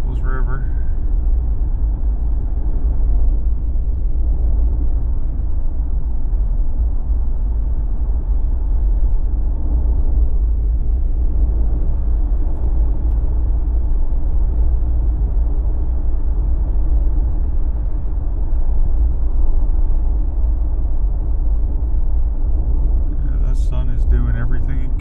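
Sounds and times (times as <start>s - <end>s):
car driving road rumble: 0.0s - 25.0s.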